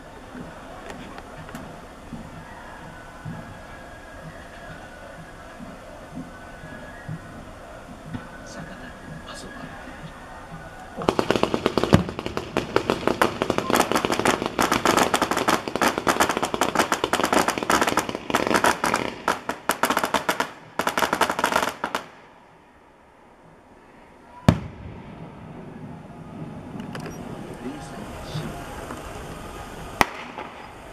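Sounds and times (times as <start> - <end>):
fireworks crackling pops and bangs: 0.0 - 22.4, 24.3 - 30.9.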